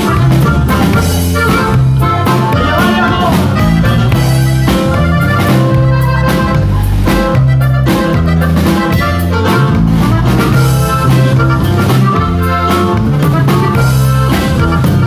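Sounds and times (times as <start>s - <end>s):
upbeat band music: 0.0s - 15.0s.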